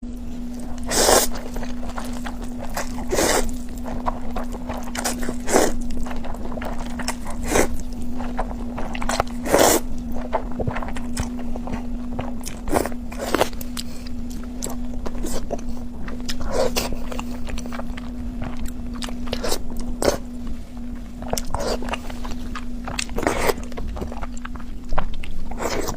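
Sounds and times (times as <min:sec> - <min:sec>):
low hum: 0:00.0 - 0:25.9
mouth sounds of eating noodles: 0:00.3 - 0:25.9.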